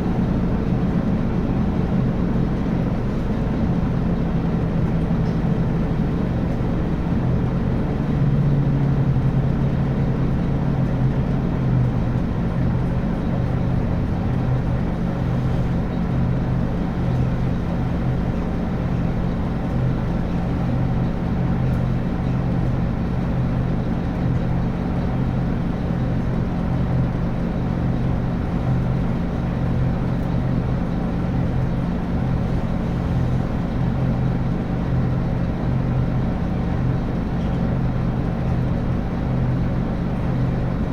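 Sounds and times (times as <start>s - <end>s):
bus diesel engine droning: 0.0s - 40.9s.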